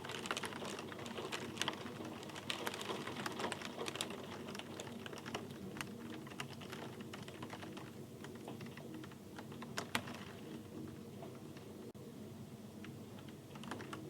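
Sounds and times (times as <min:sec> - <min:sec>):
raindrops ticking and pattering: 0:00.0 - 0:11.7, 0:12.8 - 0:14.0.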